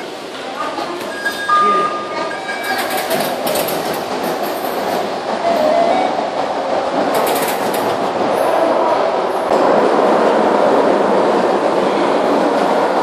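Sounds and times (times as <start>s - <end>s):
funicular rail rumble: 0.0s - 13.0s.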